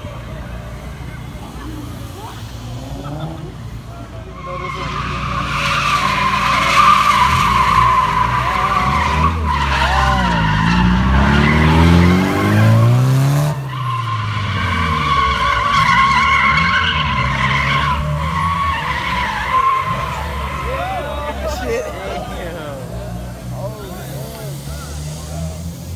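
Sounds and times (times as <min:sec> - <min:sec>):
car engine revving: 0:00.0 - 0:25.9
tyres squealing: 0:04.0 - 0:25.7.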